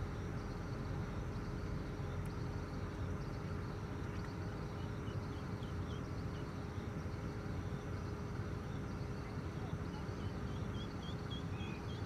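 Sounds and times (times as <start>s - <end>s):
constant hum: 0.0s - 12.0s
low outdoor rumble: 0.0s - 12.0s.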